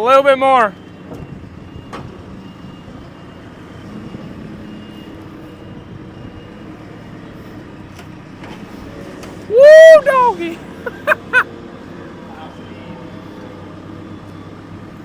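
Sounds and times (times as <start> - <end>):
diesel truck engine running: 0.6 - 15.0.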